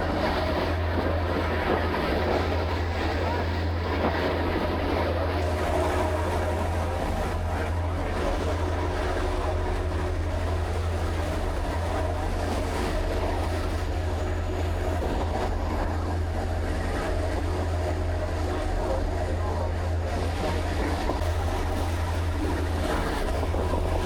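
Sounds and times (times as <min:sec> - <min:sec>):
ferry engines droning: 0:00.0 - 0:24.0.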